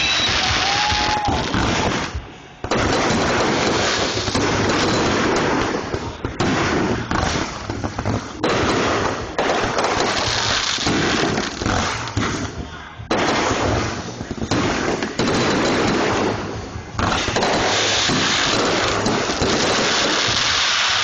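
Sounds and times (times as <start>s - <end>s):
fireworks bangs and crackle: 0.0s - 21.0s.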